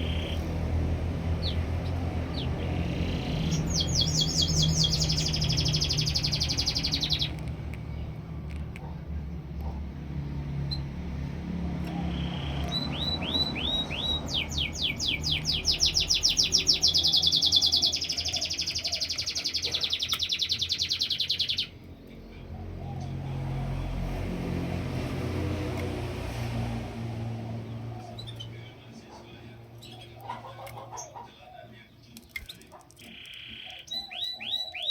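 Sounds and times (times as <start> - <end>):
canary singing trills: 0.0 - 8.3, 11.7 - 24.0, 27.6 - 34.9.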